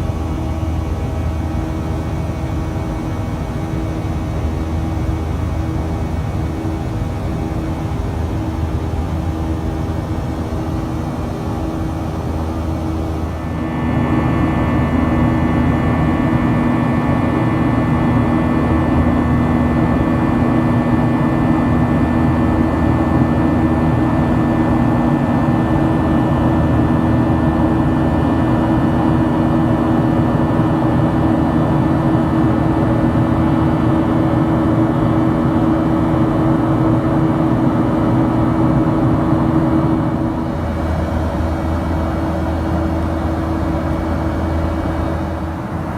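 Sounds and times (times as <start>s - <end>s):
jet engines drone in cabin: 0.0s - 45.9s.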